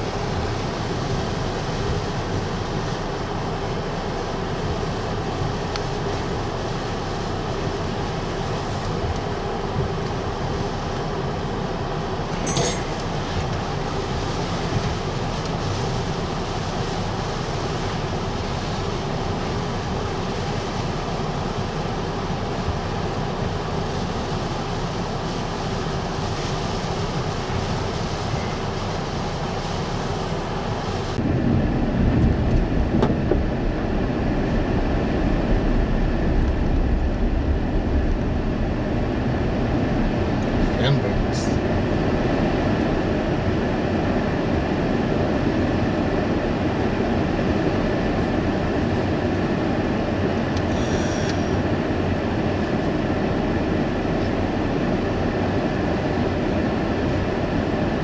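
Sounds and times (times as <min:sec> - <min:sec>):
car driving on road: 0:00.0 - 0:58.0
wind and rain on vehicle: 0:00.0 - 0:58.0.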